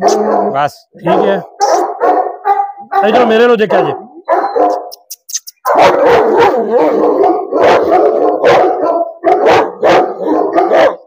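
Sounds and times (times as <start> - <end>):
dog barking loudly: 0.0 - 5.0, 5.6 - 11.0.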